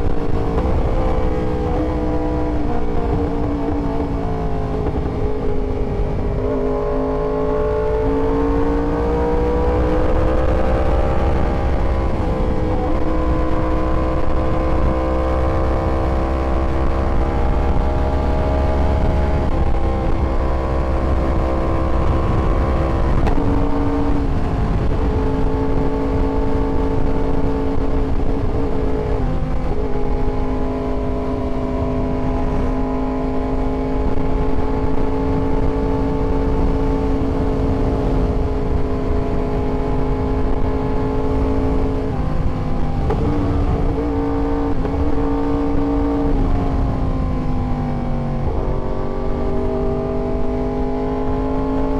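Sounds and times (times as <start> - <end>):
motorcycle engine running: 0.0 - 49.6.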